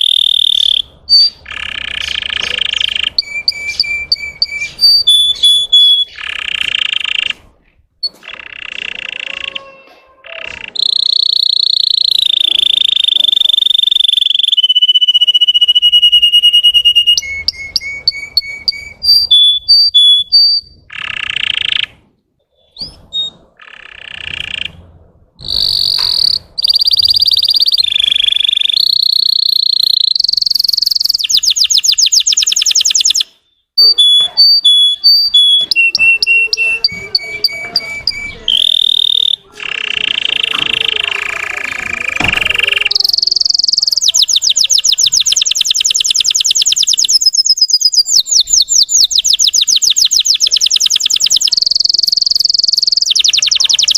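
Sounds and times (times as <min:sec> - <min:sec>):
canary singing trills and chirps: 0:00.0 - 0:53.9.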